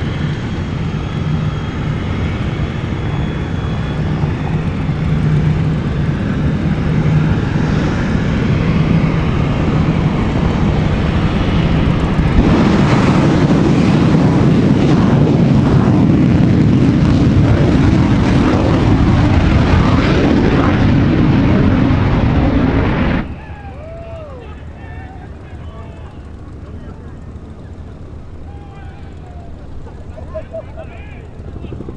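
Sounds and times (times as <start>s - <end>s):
turbine engine noise: 0.0s - 31.9s.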